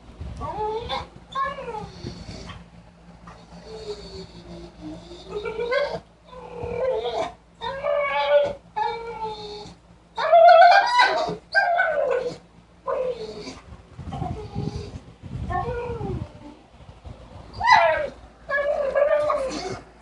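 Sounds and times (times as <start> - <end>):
dog whining calls: 0.4 - 2.6, 3.3 - 16.6, 17.5 - 20.0.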